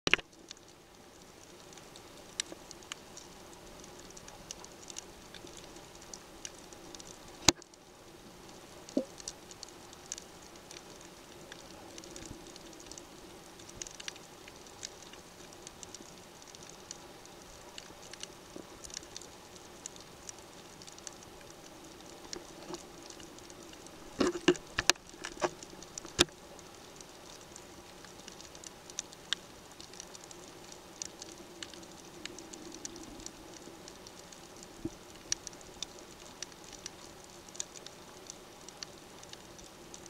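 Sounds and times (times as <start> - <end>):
faint steady hum: 0.1 - 40.0.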